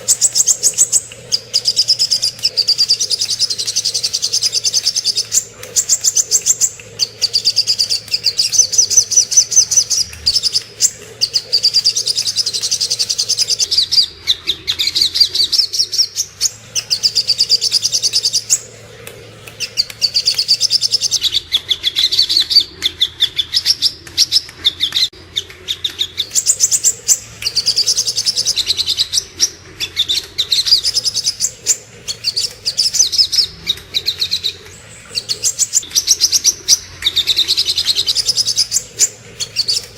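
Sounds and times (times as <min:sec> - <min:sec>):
bird song of rapid high chirps: 0:00.0 - 0:18.8, 0:19.4 - 0:39.9.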